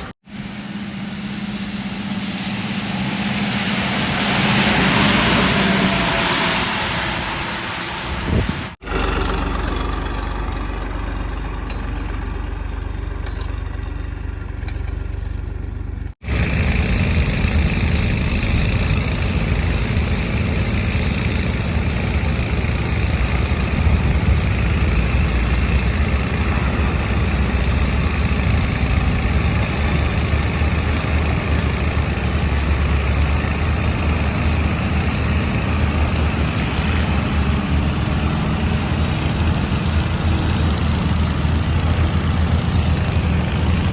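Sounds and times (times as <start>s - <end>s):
deep engine running: 0.0s - 43.9s
heavy diesel engine running: 0.0s - 43.9s.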